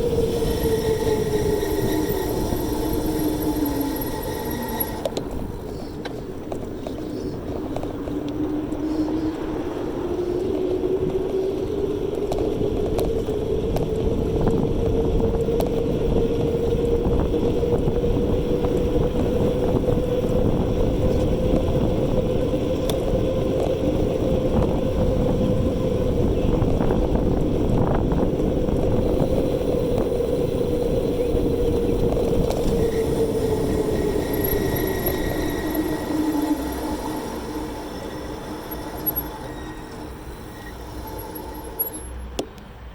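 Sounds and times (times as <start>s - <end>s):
electric bike motor whining: 0.0s - 42.4s
wind and tyre noise: 0.0s - 42.9s.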